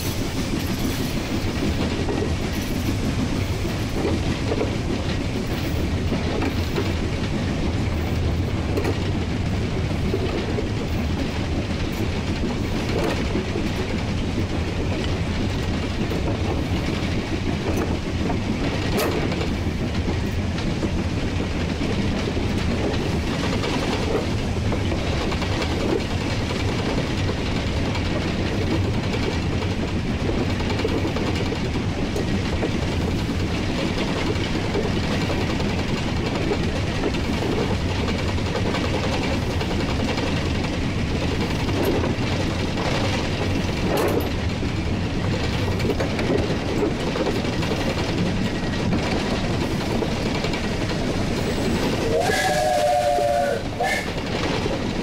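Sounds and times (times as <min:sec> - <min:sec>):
steam locomotive running: 0:00.0 - 0:55.0
wheels clattering over rails: 0:00.0 - 0:55.0.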